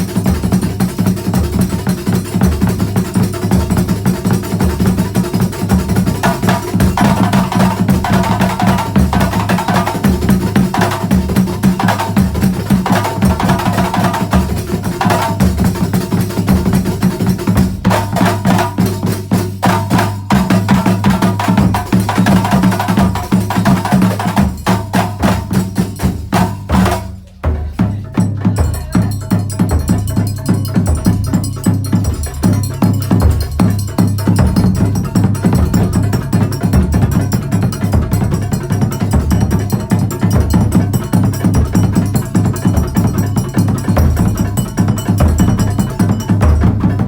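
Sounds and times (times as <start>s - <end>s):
frame drums playing: 0.0s - 47.0s.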